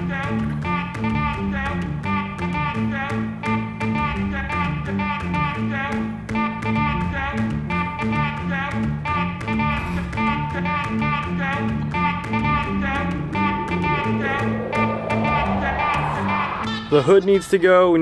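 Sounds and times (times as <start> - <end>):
guitar-led song with beat: 0.2 - 16.9.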